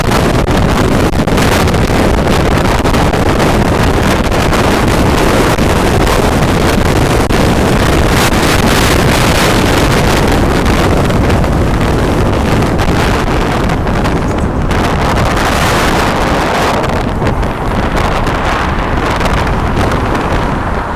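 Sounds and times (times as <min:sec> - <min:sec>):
wind blasting across microphone: 0:00.0 - 0:20.9.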